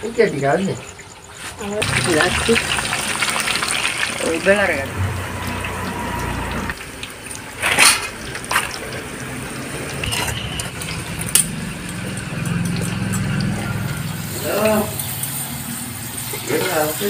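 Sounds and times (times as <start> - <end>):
oil sizzling: 0.9 - 17.0.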